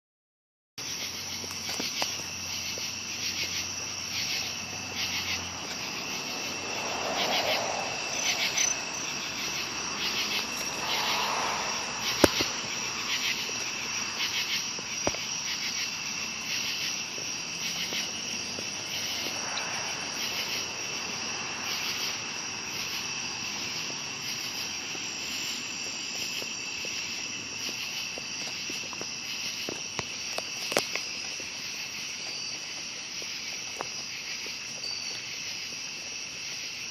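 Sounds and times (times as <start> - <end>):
crickets and cicadas trilling: 0.8 - 36.9.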